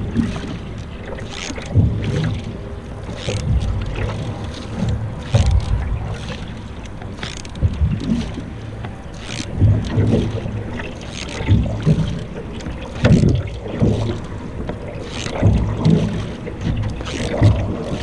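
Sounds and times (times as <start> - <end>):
paddle splashing in water: 0.0 - 18.0.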